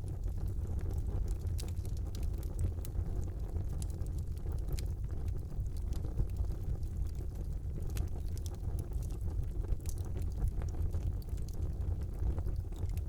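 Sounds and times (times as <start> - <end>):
fire burning in a fireplace: 0.0 - 13.0
fire crackles and pops: 0.0 - 13.0.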